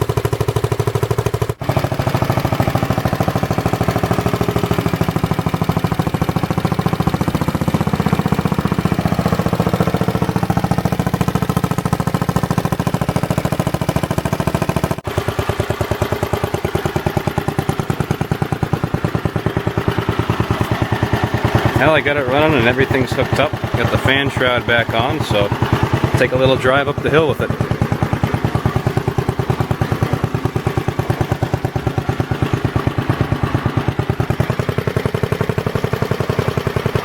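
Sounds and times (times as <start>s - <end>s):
single-cylinder engine running: 0.0s - 37.0s.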